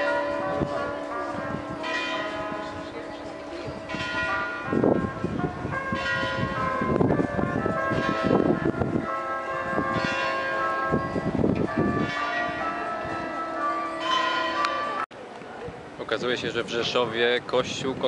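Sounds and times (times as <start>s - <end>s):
church bells ringing: 0.0s - 15.1s.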